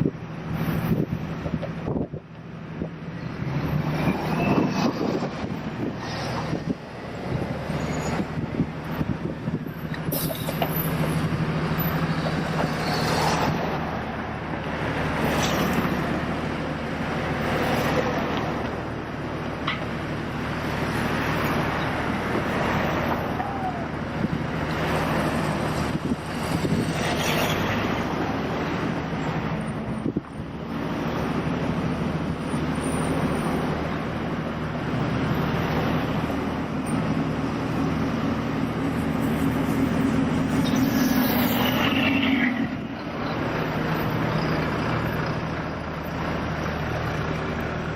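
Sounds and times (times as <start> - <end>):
heavy engines running: 0.0 - 47.9
traffic and machinery noise: 0.0 - 47.9.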